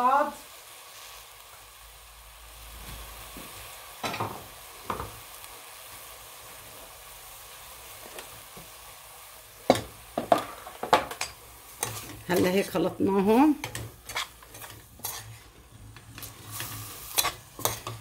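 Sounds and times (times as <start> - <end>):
vegetables sizzling in a pot: 0.0 - 18.0.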